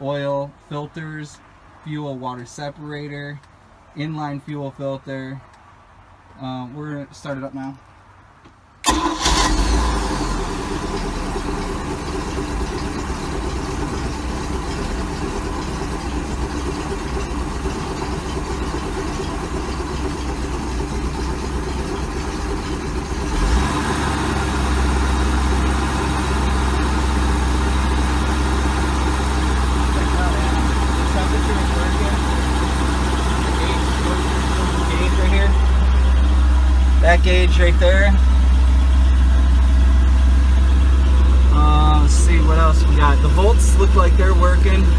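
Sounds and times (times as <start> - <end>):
boat engine starting and idling: 8.8 - 44.9.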